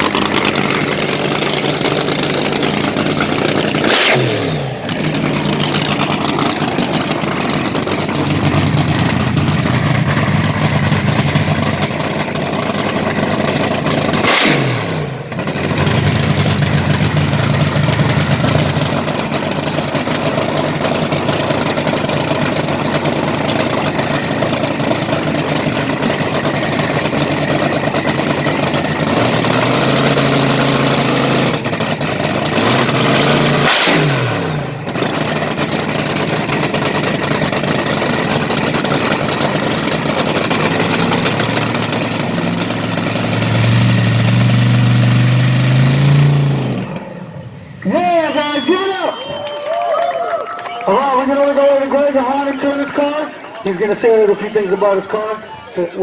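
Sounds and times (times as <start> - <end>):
car engine revving: 0.0 - 49.2
car engine idling loudly: 0.0 - 49.6, 50.9 - 56.0.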